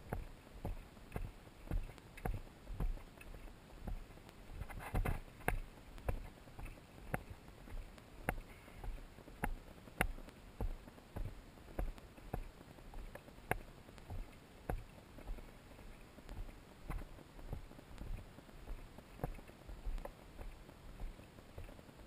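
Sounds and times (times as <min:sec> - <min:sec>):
footsteps on dirt trail: 0:00.0 - 0:22.0
rough scuffing: 0:00.1 - 0:21.8.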